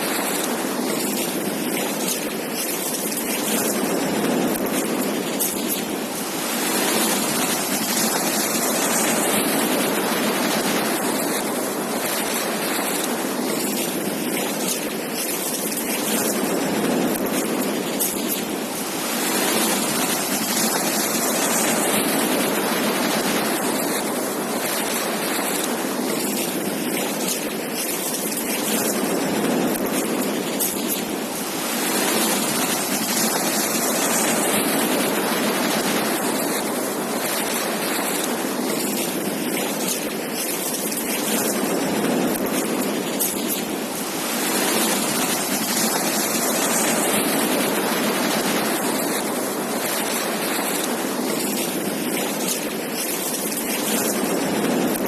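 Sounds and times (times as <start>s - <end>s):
surf breaking on beach: 0.0s - 55.0s
wind on microphone: 0.0s - 55.0s.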